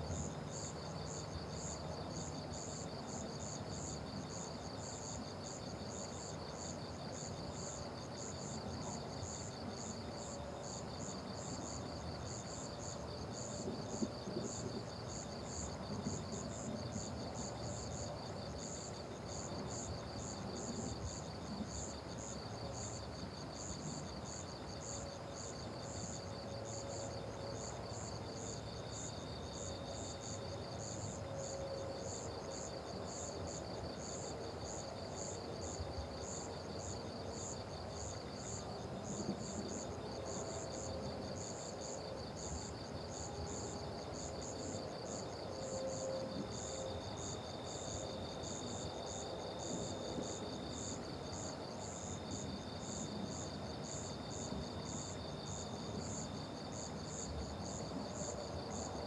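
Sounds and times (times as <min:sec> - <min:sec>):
crickets chirping: 0:00.0 - 0:59.0
second steady insect trill: 0:00.0 - 0:59.0.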